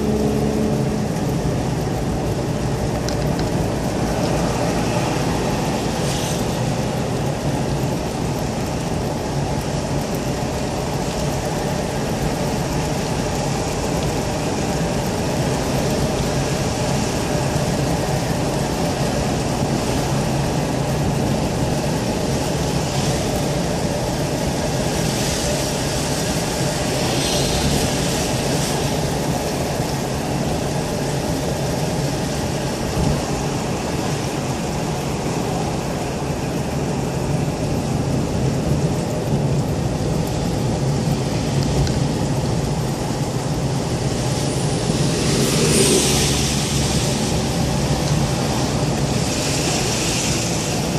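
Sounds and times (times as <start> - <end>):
engine and tyre rumble: 0.0 - 50.9
wet road hiss: 0.0 - 50.9.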